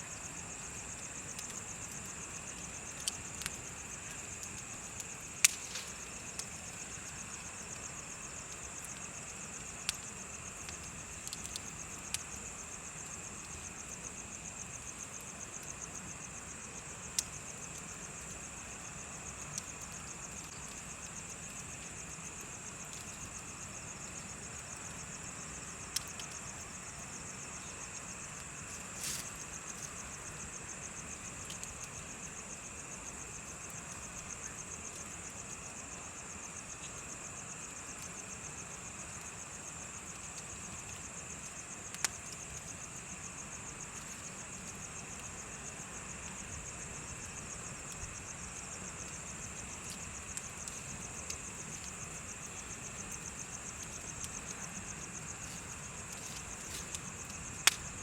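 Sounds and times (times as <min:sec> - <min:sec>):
fire popping: 0:00.0 - 0:32.1, 0:37.8 - 0:58.0
bonfire hissing: 0:00.0 - 0:58.0
insects chirping: 0:00.0 - 0:58.0
low insect chirring: 0:00.0 - 0:58.0.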